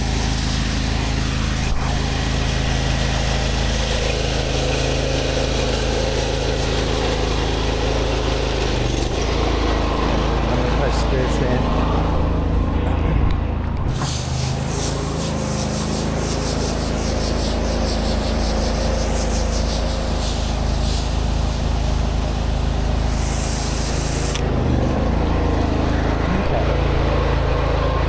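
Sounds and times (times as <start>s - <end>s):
water jet hissing on concrete: 0.0s - 12.7s, 13.9s - 28.0s
pressure washer engine running: 0.0s - 28.0s.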